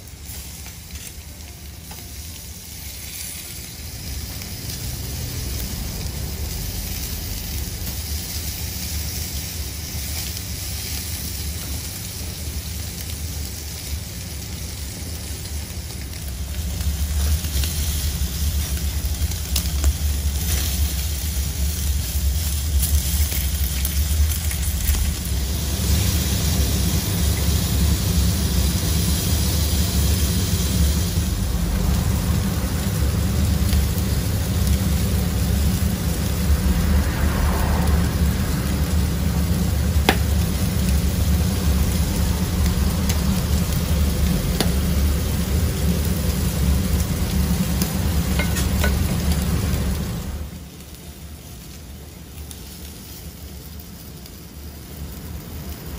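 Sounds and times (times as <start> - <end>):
gas burner rumble: 0.0 - 55.9
meat sizzling on grill: 0.0 - 55.9.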